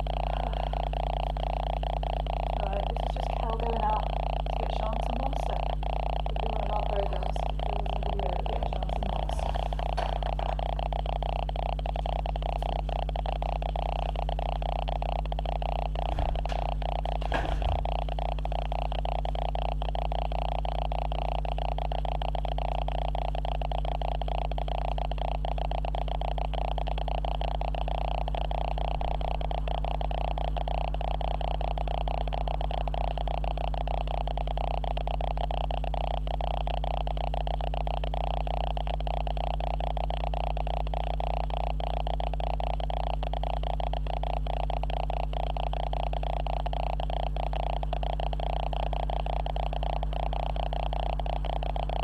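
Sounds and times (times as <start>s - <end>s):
electrical buzz and hum: 0.0s - 52.0s.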